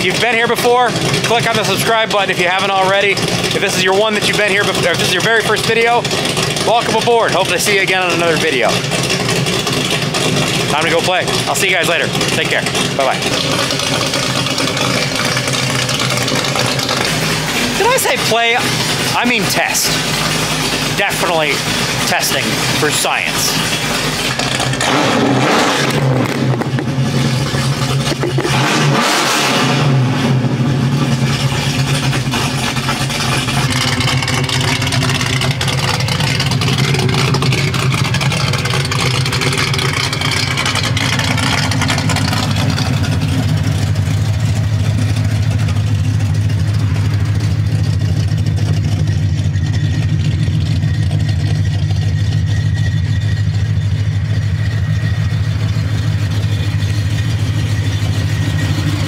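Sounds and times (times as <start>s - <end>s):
vee eight engine running: 0.0s - 59.0s.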